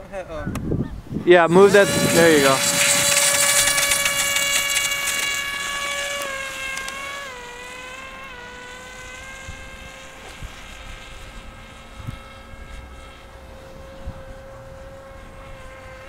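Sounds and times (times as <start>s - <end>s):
model plane motor whining: 1.4s - 16.0s.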